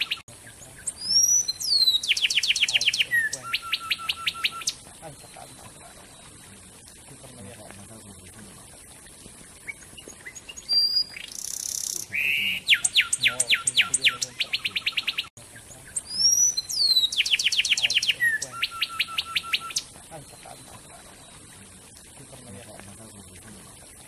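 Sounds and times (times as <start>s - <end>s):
wren singing: 0.0s - 8.6s, 9.5s - 23.7s.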